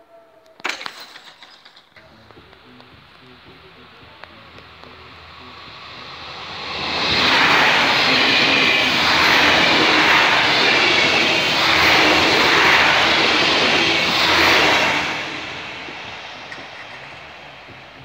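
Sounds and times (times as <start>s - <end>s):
train passing at speed: 2.1s - 18.0s.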